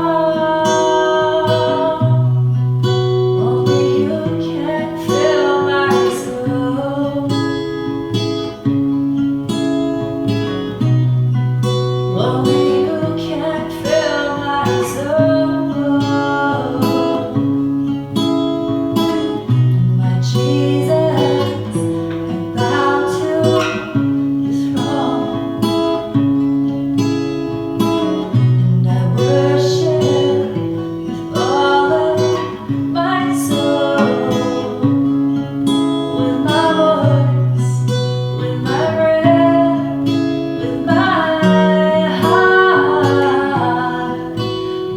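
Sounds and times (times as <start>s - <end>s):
woman singing: 0.0s - 8.2s, 12.1s - 26.4s, 27.8s - 44.9s
acoustic guitar strumming: 0.0s - 44.9s.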